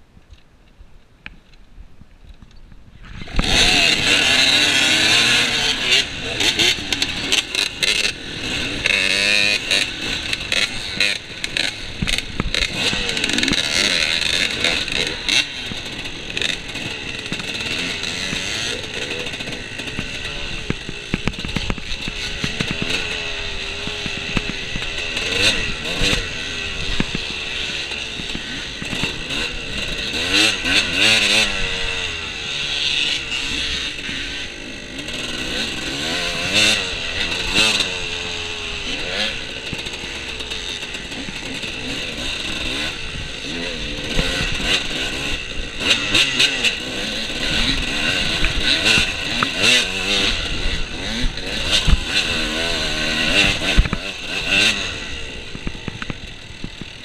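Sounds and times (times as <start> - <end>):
dirt bike engine revving: 3.0 - 57.0.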